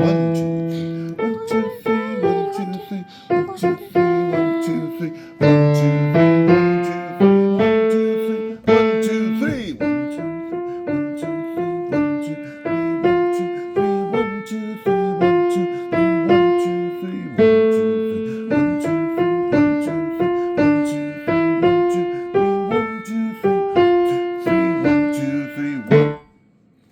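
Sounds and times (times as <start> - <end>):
piano melody: 0.0 - 26.3.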